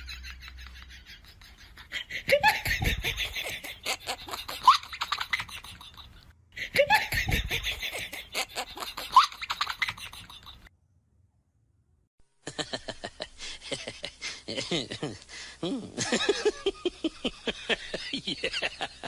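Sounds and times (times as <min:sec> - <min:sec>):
people laughing: 0:00.0 - 0:10.7, 0:12.5 - 0:19.0.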